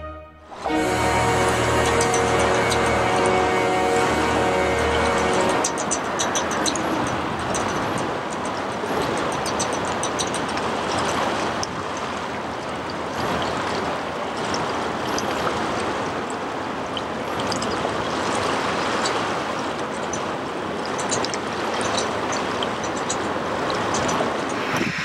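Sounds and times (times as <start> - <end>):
barge wash: 0.0 - 25.0
river water rushing: 0.4 - 25.0.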